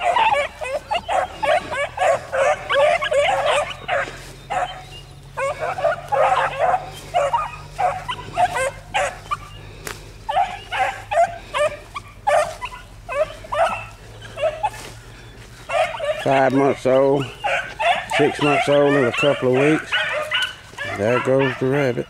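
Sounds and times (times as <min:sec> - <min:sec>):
hound puppies baying and yipping: 0:00.0 - 0:22.0.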